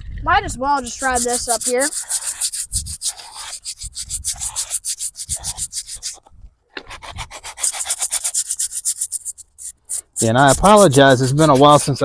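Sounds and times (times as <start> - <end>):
hand scraper rasping on stone: 0.7 - 6.2, 6.9 - 12.0.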